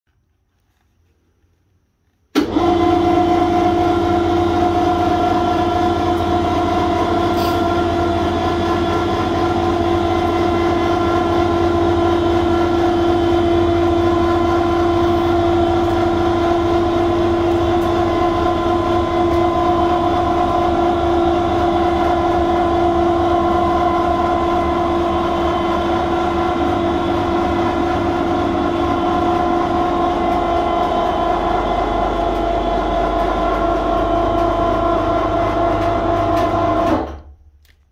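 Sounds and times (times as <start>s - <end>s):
electric hoist motor humming: 2.3s - 37.3s.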